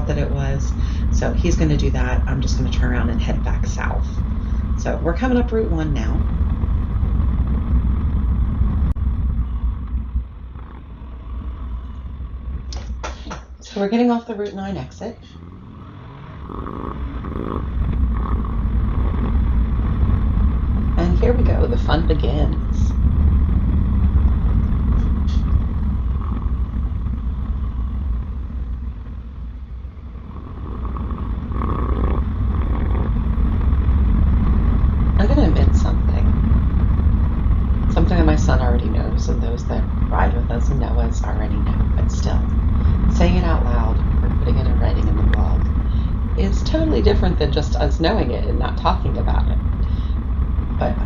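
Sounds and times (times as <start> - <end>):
wind noise on microphone: 0.0 - 13.3, 16.0 - 51.0
motorcycle engine rumbling: 0.0 - 51.0.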